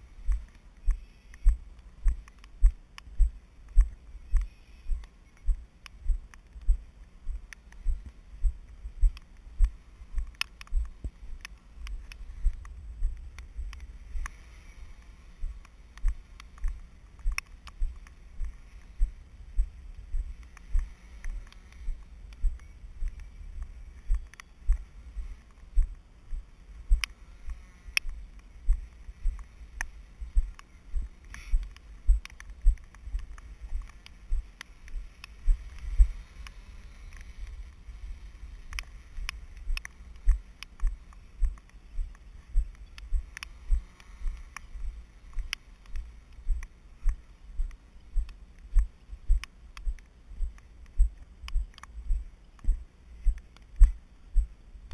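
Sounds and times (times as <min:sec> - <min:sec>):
faint sharp ticks: 0:00.0 - 0:54.9.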